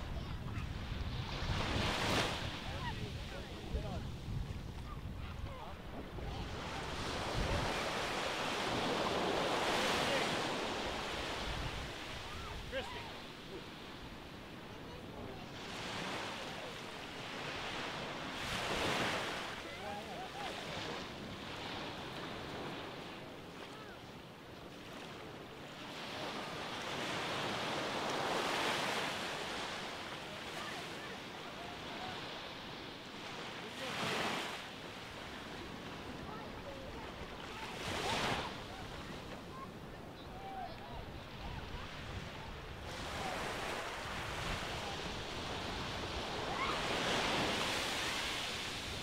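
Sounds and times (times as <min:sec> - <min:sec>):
surf washing onto beach: 0:00.0 - 0:49.0.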